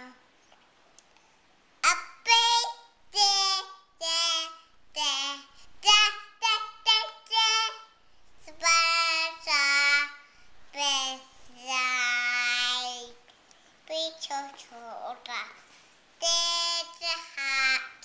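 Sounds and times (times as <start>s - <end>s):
toddler girl singing: 1.8s - 18.0s.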